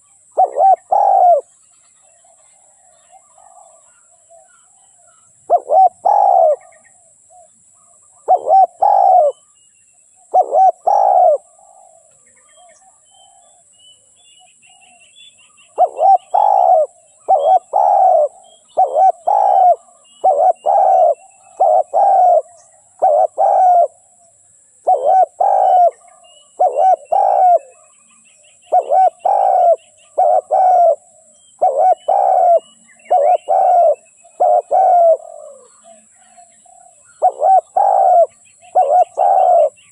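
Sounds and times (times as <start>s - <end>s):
dove cooing: 0.0s - 1.5s, 2.2s - 7.5s, 8.1s - 9.4s, 10.3s - 13.6s, 15.7s - 28.1s, 28.7s - 39.9s
small birds chirping: 0.0s - 39.9s.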